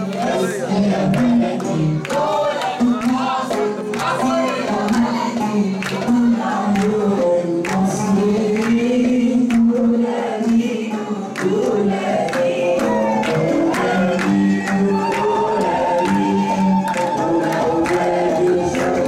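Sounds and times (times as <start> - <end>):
group singing along: 0.0 - 19.0
hands clapping in time: 0.0 - 19.0
woman singing into microphone: 0.0 - 19.0.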